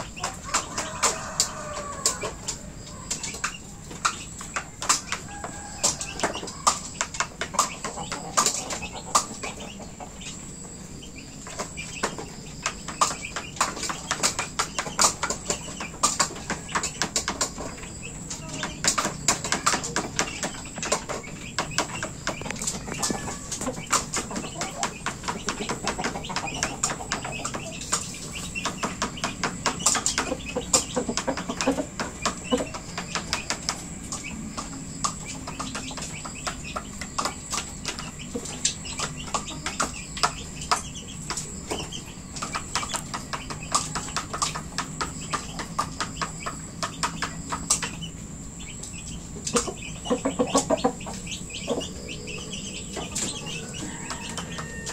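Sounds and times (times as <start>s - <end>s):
chickens pecking taps and clicks: 0.0s - 54.9s.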